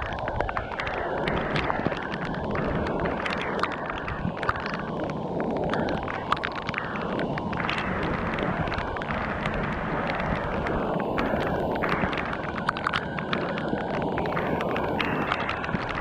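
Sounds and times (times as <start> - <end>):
heavy rain pouring: 0.0 - 16.0
raindrops clicking close by: 0.0 - 16.0
wind rumbling on microphone: 0.0 - 16.0.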